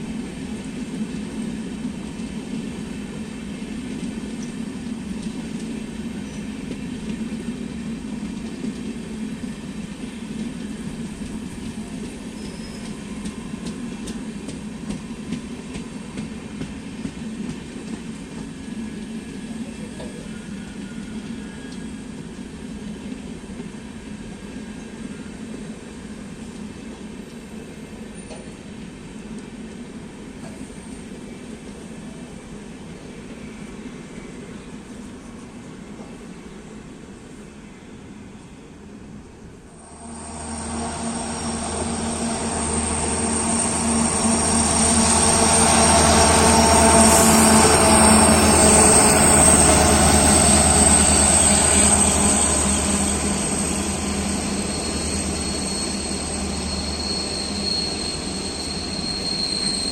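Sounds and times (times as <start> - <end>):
passenger train rolling past: 0.0 - 59.9.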